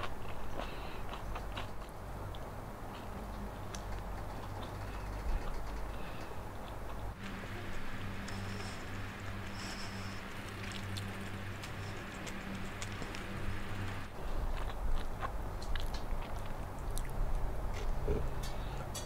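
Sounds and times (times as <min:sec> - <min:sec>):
chewing crunchy food: 0:00.0 - 0:18.7.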